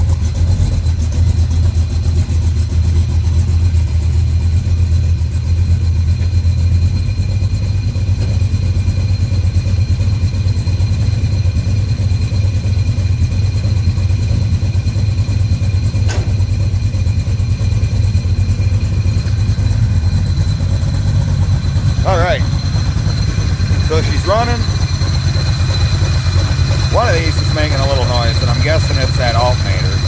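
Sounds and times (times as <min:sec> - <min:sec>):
engine idling with deep rumble: 0:00.0 - 0:30.0.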